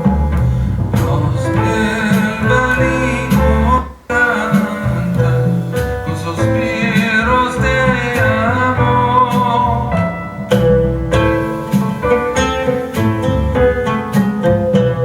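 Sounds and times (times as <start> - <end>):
bass guitar: 0.0 - 15.0
guitar: 0.0 - 15.0
person singing: 0.9 - 14.1.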